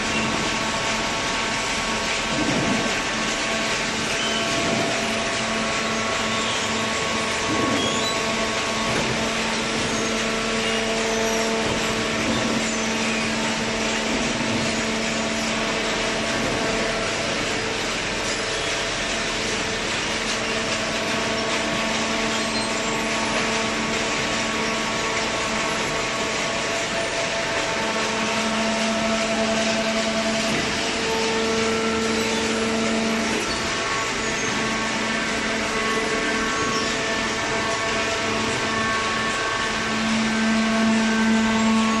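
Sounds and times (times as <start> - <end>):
baler mechanical hum: 0.0 - 42.0
machine whine: 0.0 - 42.0.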